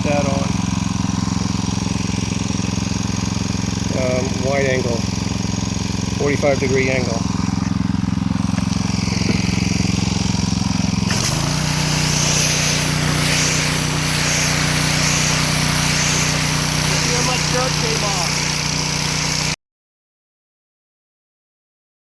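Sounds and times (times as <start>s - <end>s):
pressure washer engine running: 0.0s - 19.6s
water jet hissing: 0.0s - 19.6s.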